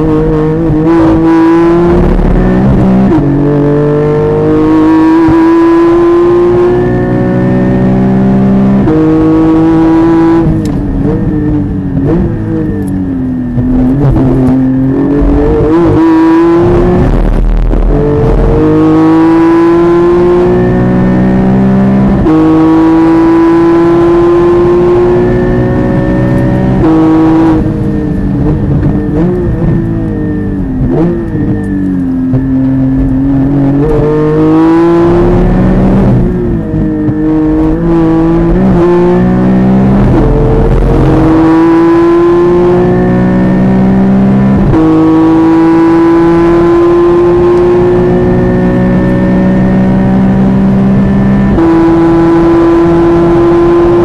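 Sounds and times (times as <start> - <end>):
sports car engine at full throttle: 0.0 - 54.0.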